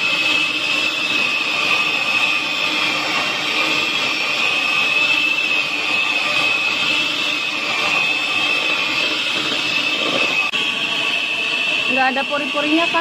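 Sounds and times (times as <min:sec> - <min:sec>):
electric hand mixer whining: 0:00.0 - 0:13.0.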